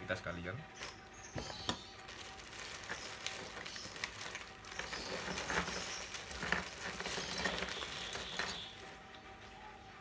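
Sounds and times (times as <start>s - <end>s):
plastic bag crinkling: 0.8s - 9.0s.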